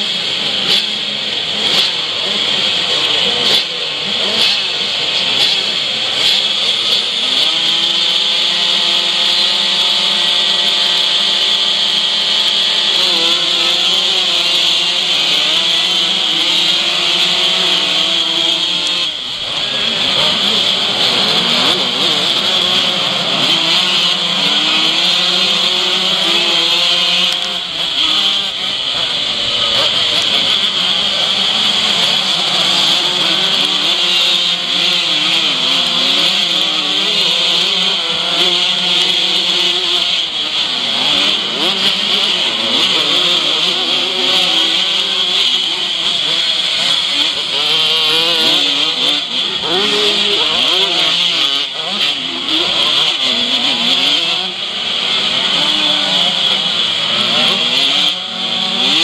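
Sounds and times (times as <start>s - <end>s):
motocross bikes revving: 0.0s - 59.0s.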